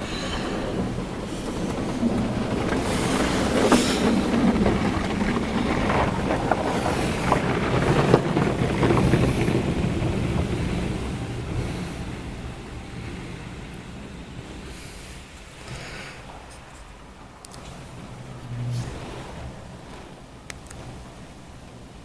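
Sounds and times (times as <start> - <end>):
water rushing on car: 0.0 - 22.0.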